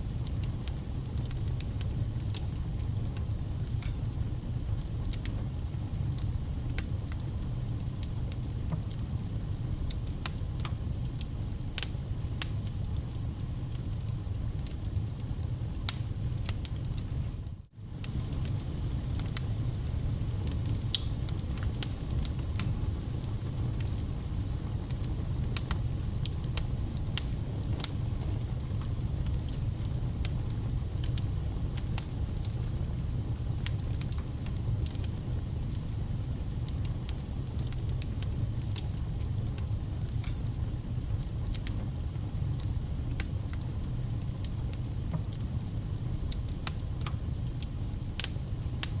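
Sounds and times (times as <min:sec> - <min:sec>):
low rumble of flames: 0:00.0 - 0:49.0
firewood crackling and popping: 0:00.1 - 0:49.0.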